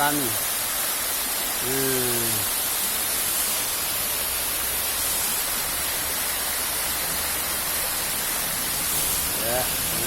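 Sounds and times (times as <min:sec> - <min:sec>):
waterfall falling over rocks: 0:00.0 - 0:10.0.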